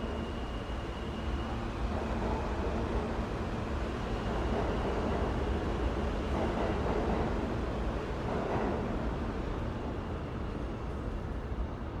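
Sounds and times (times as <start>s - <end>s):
low rumble of subway train: 0.0s - 12.0s.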